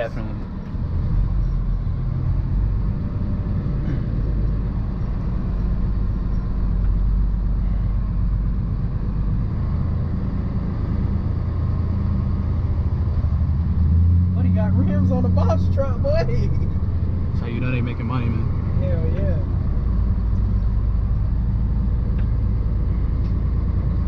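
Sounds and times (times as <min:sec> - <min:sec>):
truck engine low rumble: 0:00.0 - 0:24.0.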